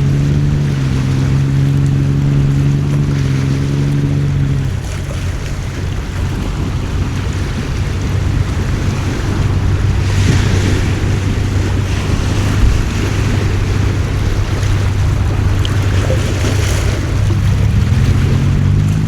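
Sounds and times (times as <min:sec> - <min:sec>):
boat engine humming: 0:00.0 - 0:19.0
wind buffeting microphone: 0:00.0 - 0:19.0.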